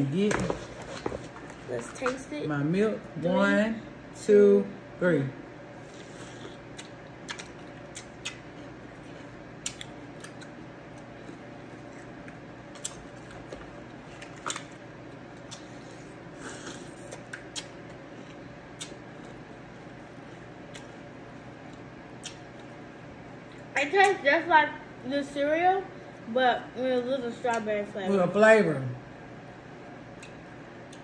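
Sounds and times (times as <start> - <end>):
room hum: 0.0 - 31.0.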